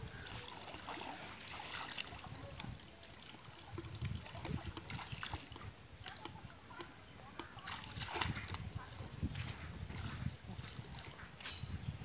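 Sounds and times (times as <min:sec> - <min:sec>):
low water sloshes: 0:00.0 - 0:11.3
water trickling and dripping: 0:00.0 - 0:11.4
hands splashing in muddy water: 0:00.1 - 0:06.5, 0:07.4 - 0:11.2.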